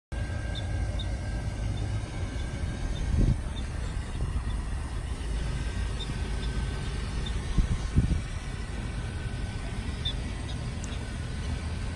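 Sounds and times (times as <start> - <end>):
bus engine idling: 0.1 - 11.9.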